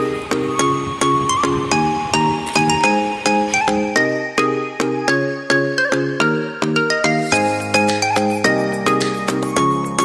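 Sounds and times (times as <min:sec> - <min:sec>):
bright electronic music: 0:00.0 - 0:10.0.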